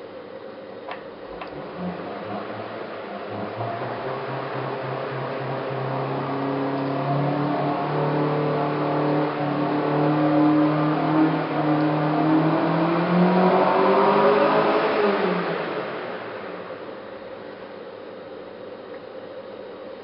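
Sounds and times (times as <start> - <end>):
milling machine motor whine: 0.9 - 18.7.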